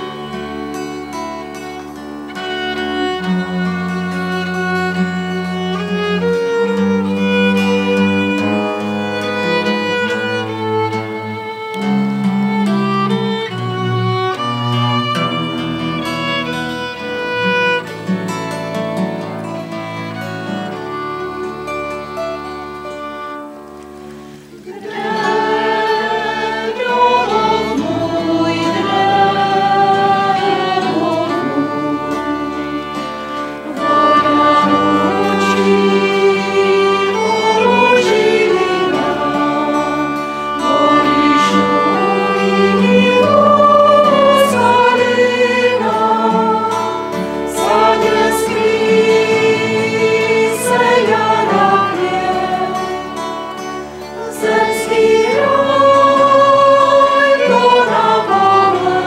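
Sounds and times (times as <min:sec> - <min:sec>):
small choir singing: 0:00.0 - 0:18.7, 0:19.4 - 0:23.6, 0:24.2 - 0:59.0
acoustic guitar: 0:00.0 - 0:59.0
violin: 0:00.0 - 0:59.0.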